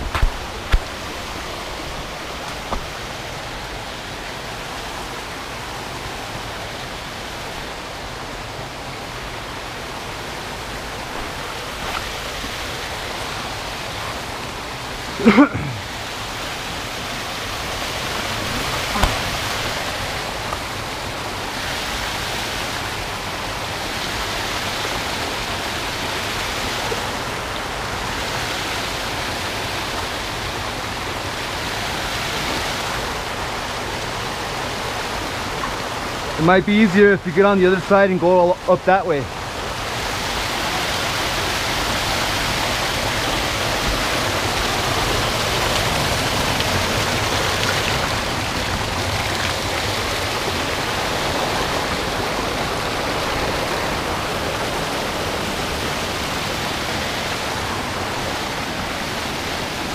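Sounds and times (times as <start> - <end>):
creek rushing over boulders: 0.0 - 59.9.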